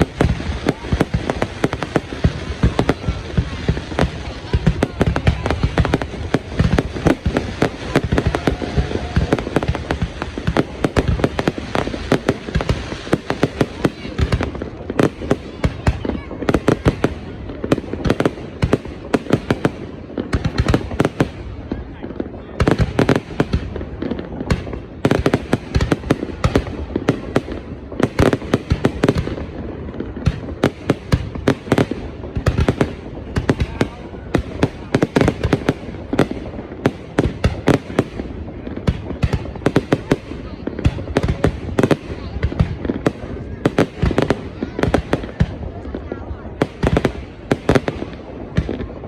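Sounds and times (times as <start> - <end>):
fireworks bangs and pops: 0.0 - 49.0.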